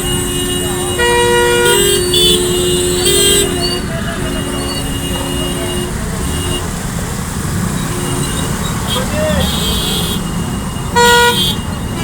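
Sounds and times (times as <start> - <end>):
road traffic noise: 0.0 - 12.0
vehicle horns honking: 0.0 - 12.0.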